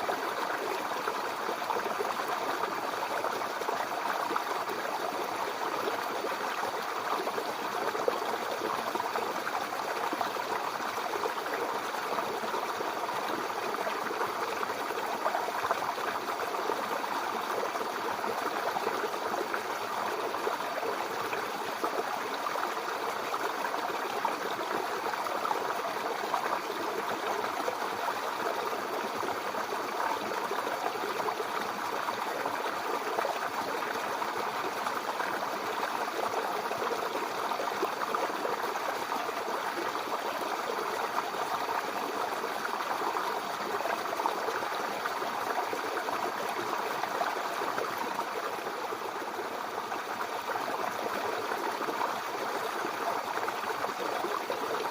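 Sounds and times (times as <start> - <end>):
brook water trickling over stones: 0.0 - 54.9.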